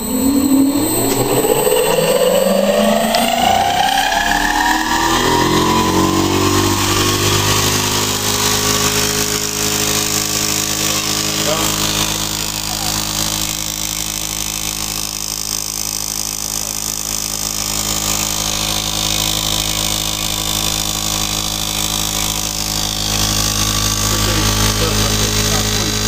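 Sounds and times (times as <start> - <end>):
motor-generator set humming: 0.0 - 26.0.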